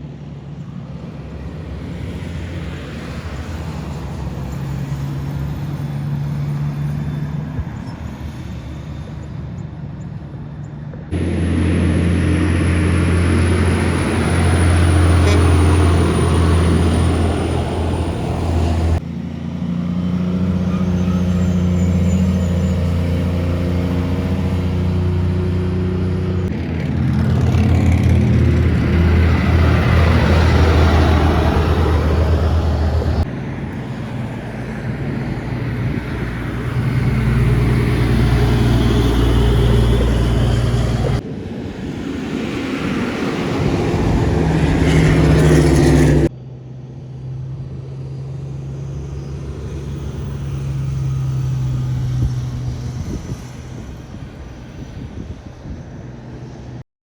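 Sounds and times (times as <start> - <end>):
heavy trucks passing: 0.0 - 56.8.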